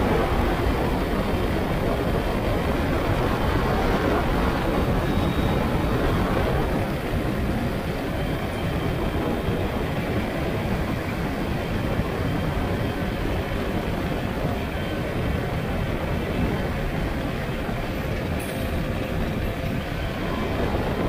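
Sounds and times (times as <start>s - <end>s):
ultralight aircraft engine and propeller: 0.0s - 21.0s.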